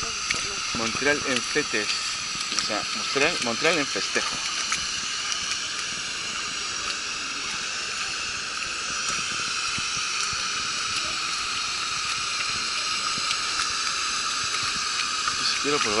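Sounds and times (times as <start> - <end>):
street ambience hiss: 0.0 - 16.0.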